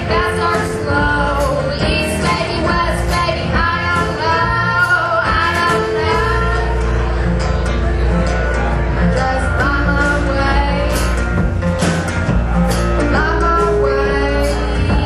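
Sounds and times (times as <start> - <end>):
live band playing: 0.0 - 15.0
steady bass line: 0.0 - 15.0.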